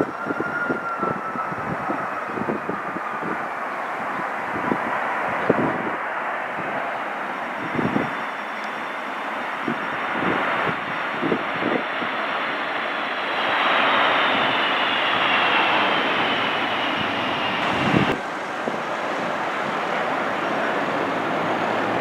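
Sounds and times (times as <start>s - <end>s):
jet engines whining: 0.0s - 22.0s
wind gusts on microphone: 0.0s - 22.0s.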